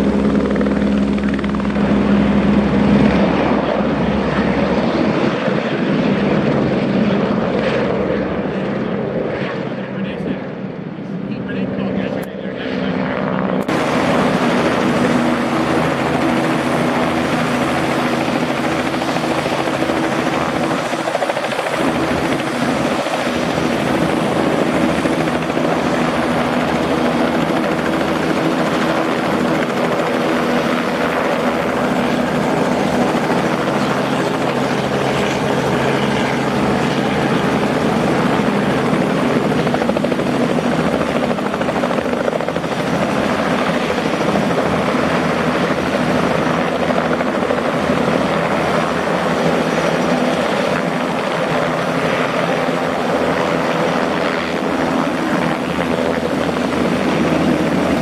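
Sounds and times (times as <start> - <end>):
helicopter running: 0.0 - 58.0.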